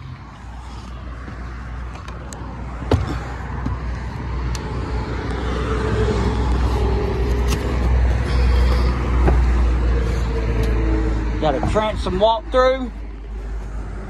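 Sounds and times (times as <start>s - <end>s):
engine hum: 0.0s - 14.0s
road traffic rumbling: 0.0s - 14.0s.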